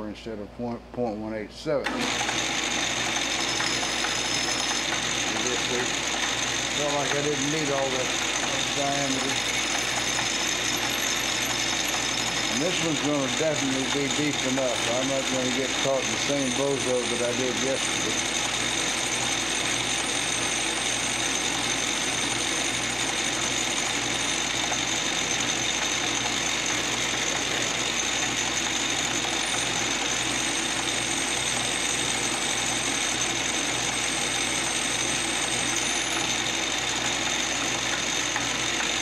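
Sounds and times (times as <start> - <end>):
drill boring into brass: 1.9 - 39.0
metal lathe high whine: 1.9 - 39.0.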